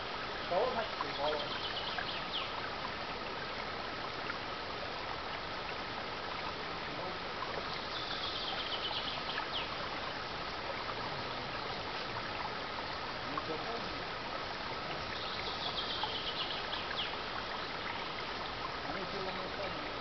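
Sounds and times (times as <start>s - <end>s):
stream burbling over stones: 0.0s - 20.0s.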